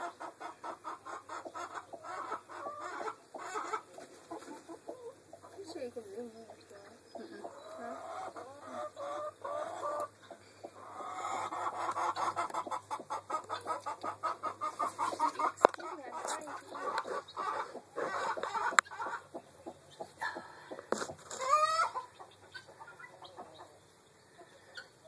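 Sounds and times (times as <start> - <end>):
chicken clucking: 0.0 - 25.0.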